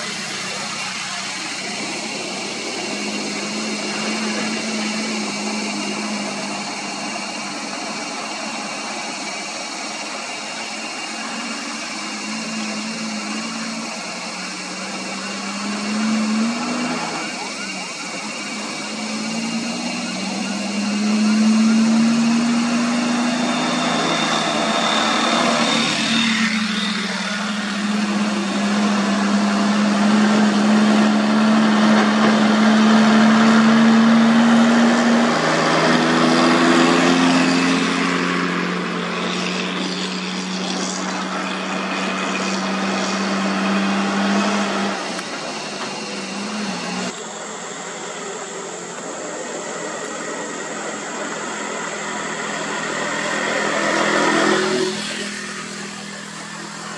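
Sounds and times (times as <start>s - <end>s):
road and traffic noise: 0.0s - 56.9s
truck diesel engine drone: 0.0s - 56.9s.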